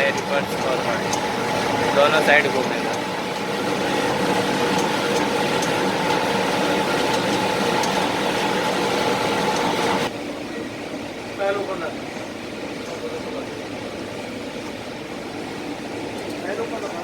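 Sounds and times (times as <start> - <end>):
tumble dryer running: 0.0 - 17.0.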